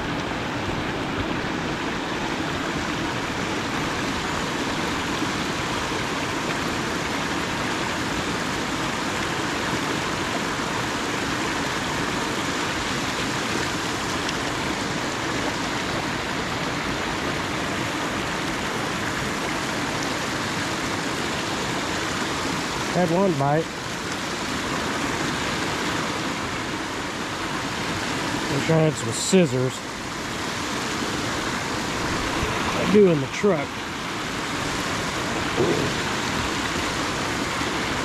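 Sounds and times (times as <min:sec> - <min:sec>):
river water rushing through rocks: 0:00.0 - 0:38.0.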